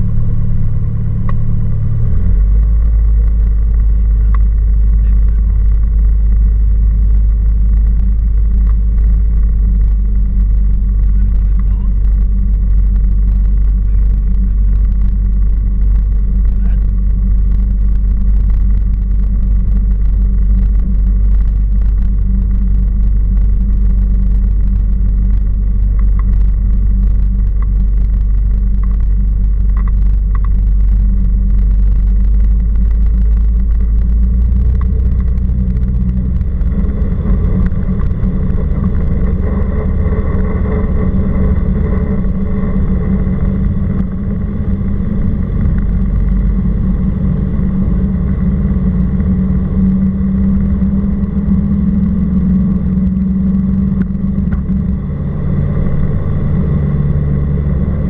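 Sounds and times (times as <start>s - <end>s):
airplane engine and propeller running: 0.0s - 58.0s.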